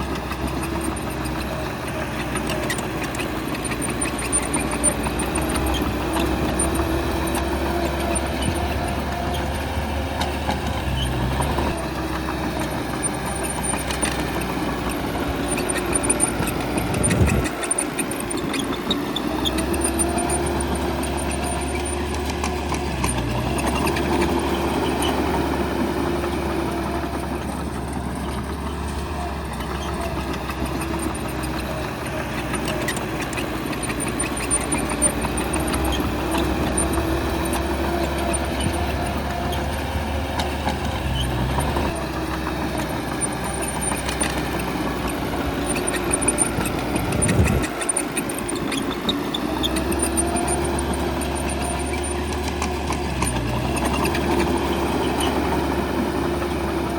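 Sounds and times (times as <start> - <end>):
bulldozer diesel engine running: 0.0 - 56.9.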